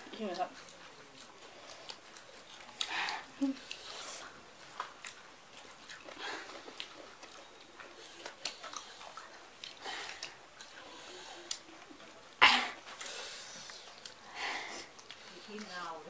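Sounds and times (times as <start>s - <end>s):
mouths chewing food: 0.0s - 16.0s.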